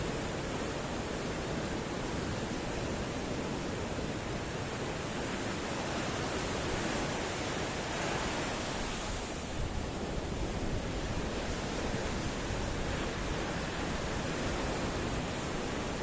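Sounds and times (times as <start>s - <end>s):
ocean waves rushing: 0.0s - 16.0s.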